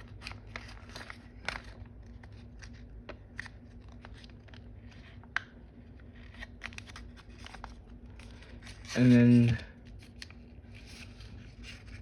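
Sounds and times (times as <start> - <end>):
paper being folded and creased: 0.0 - 5.3, 6.0 - 12.0
steady low hum: 0.0 - 12.0.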